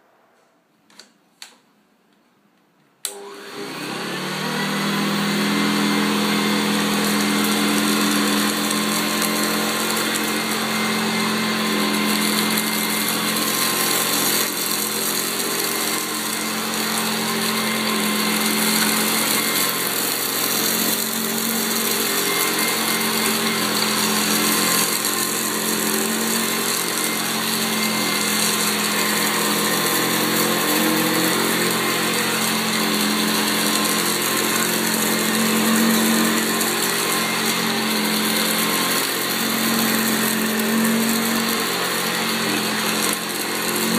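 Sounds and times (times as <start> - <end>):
vacuum cleaner on carpet: 3.0 - 43.9.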